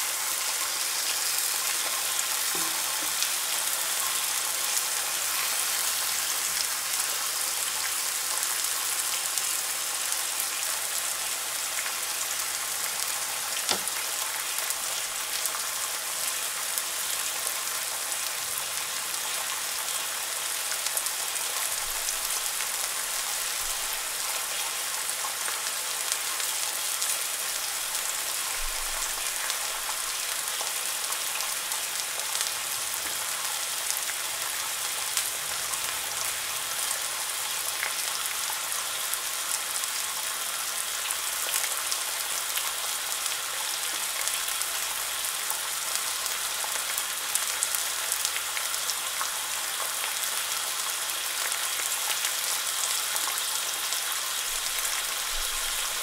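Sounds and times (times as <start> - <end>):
bacon sizzling in a frying pan: 0.0 - 56.0.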